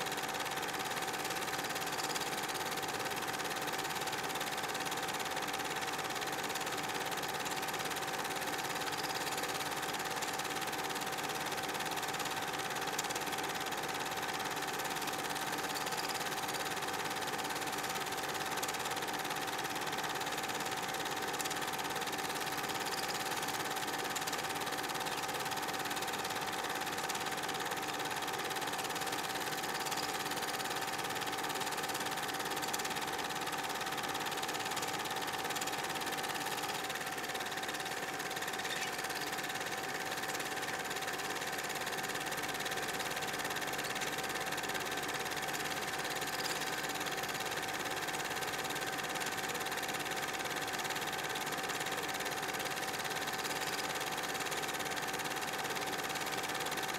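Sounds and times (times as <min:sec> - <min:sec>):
film projector whirring: 0:00.0 - 0:56.9.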